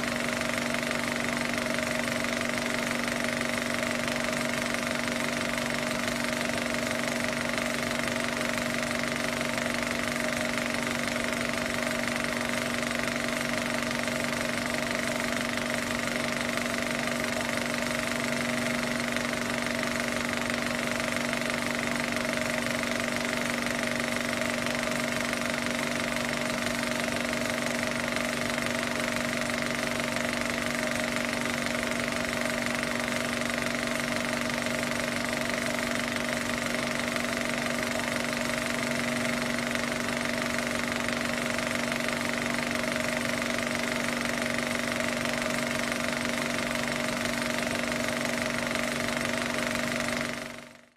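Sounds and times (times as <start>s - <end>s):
film projector clatter: 0.0s - 50.9s
projector hum: 0.0s - 50.9s.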